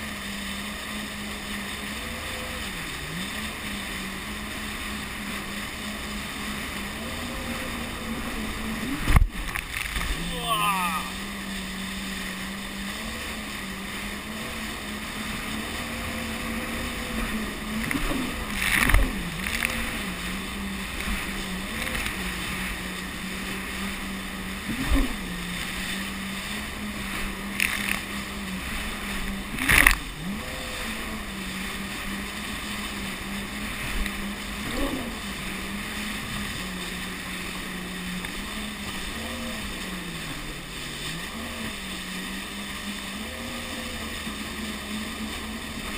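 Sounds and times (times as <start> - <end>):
jet ski engine running: 0.0 - 45.9.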